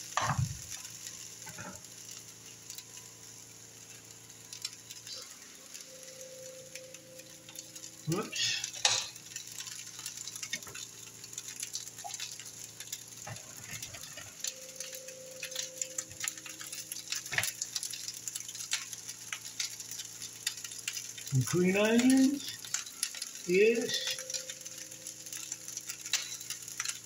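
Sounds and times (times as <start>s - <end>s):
rice sizzling in a skillet: 0.0s - 27.0s.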